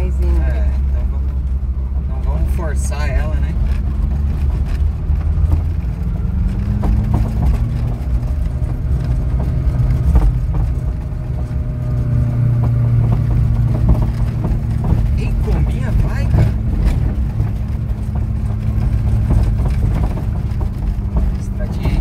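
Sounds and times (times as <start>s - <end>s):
van engine pulling hard: 0.0s - 22.0s.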